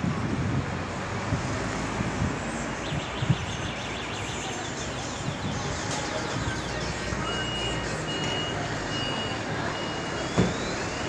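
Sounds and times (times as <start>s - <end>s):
passing cars and engines: 0.0s - 11.0s.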